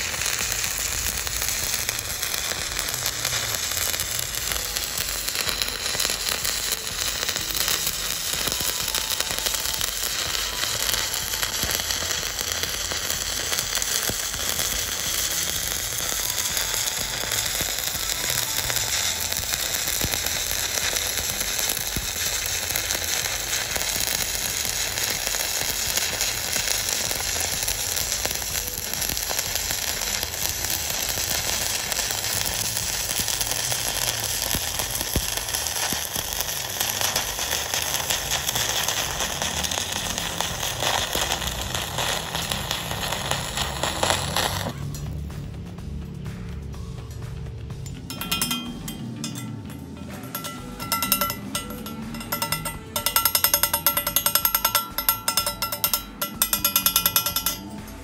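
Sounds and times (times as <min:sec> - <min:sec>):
welding arc burning: 0:00.0 - 0:45.2, 0:48.1 - 0:58.0.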